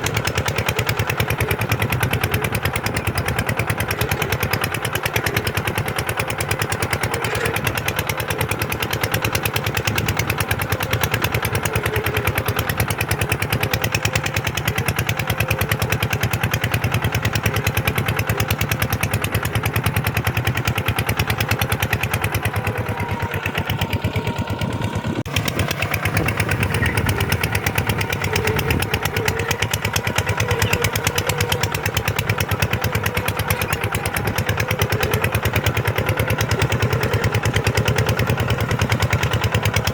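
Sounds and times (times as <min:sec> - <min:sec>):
tractor diesel engine knocking: 0:00.0 - 0:39.9.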